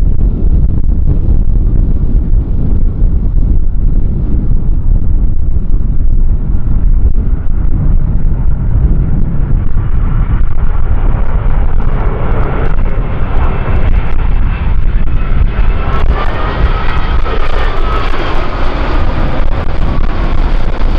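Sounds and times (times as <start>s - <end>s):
wind buffeting microphone: 0.0s - 20.9s
jet engines whining: 0.2s - 20.9s.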